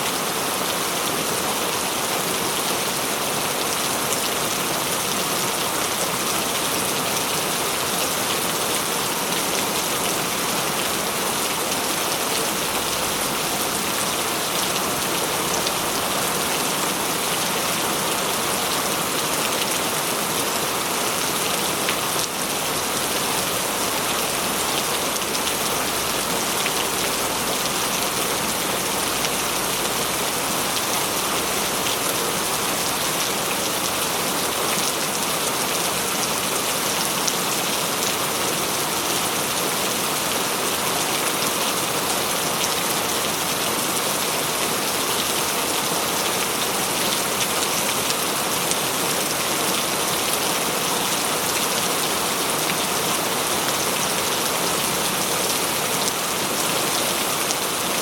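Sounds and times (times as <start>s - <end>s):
heavy rain splashing: 0.1s - 58.0s.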